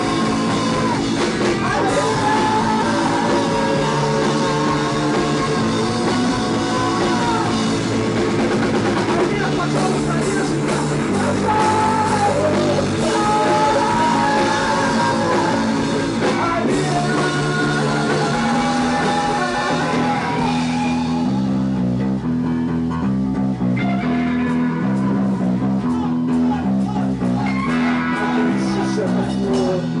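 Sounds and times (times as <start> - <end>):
bass guitar: 0.0 - 30.0
drum kit: 0.0 - 30.0
lead guitar melody: 0.0 - 30.0.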